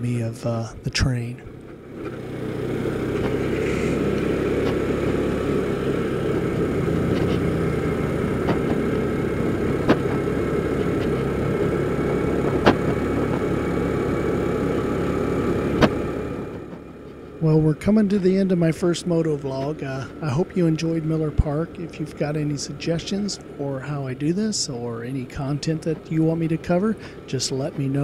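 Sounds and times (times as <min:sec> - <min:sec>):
road noise: 0:00.0 - 0:28.0
scooter engine running: 0:01.5 - 0:28.0.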